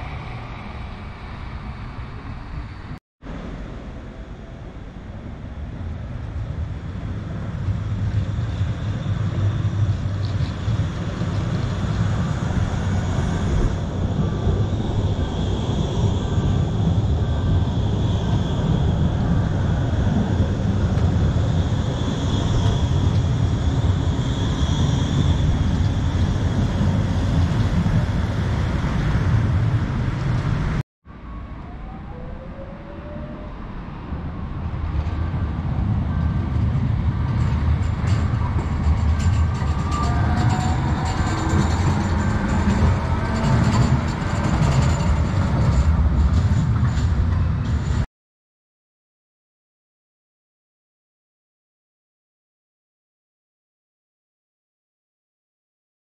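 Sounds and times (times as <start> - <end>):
tram wheels rumbling on rails: 0.0 - 30.8, 31.4 - 48.1.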